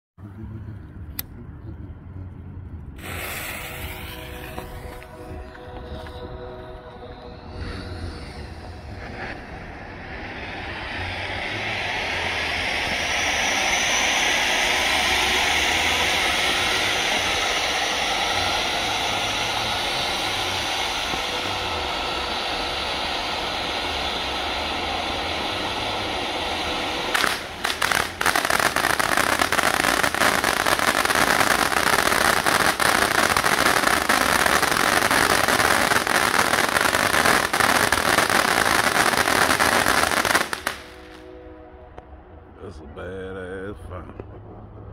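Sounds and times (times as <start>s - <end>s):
firework fountain hissing: 3.0s - 5.5s, 7.7s - 41.2s
firework crackling: 3.0s - 5.9s, 7.6s - 41.2s.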